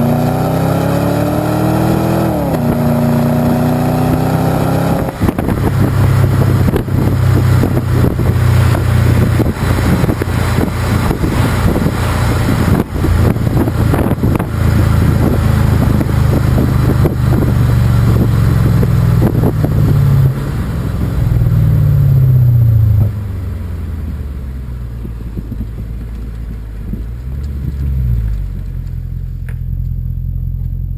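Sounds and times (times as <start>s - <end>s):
car engine droning while driving: 0.0s - 30.9s.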